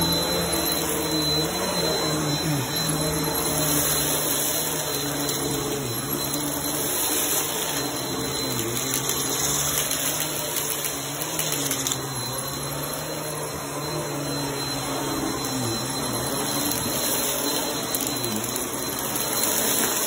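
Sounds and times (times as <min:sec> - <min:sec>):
vacuum cleaner on carpet: 0:00.0 - 0:20.0.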